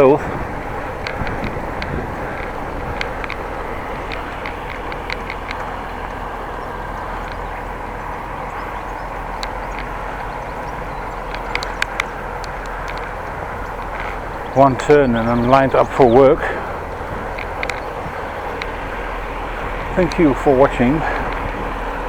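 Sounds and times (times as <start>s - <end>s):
bicycle rolling noise: 0.0s - 22.0s
light clicks: 0.0s - 22.0s.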